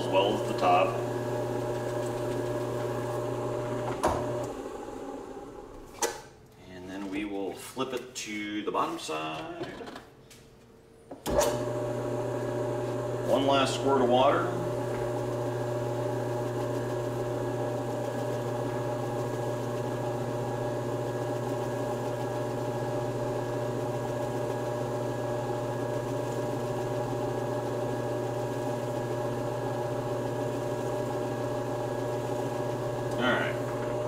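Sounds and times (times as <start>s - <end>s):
electric motor humming: 0.0s - 5.6s, 11.6s - 34.0s.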